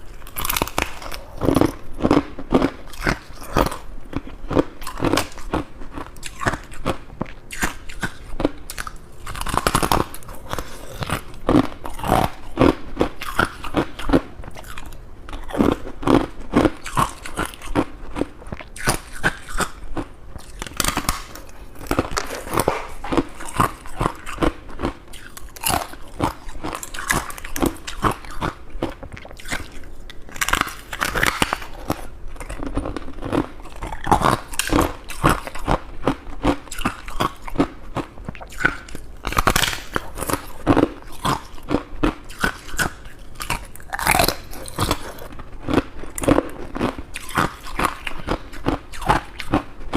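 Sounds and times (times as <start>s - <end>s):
person chewing crunchy frost: 0.0s - 49.9s.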